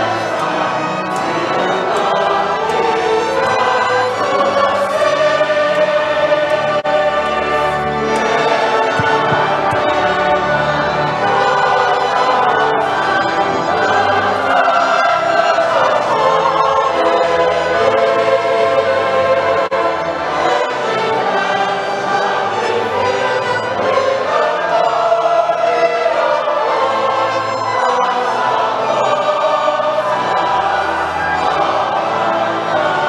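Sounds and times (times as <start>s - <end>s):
choir singing a hymn: 0.0s - 33.0s
orchestra with violins and brass: 0.0s - 33.0s.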